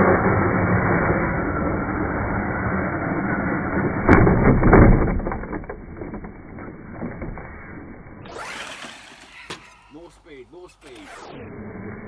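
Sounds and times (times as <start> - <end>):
rc truck rushing noise: 0.0 - 12.0.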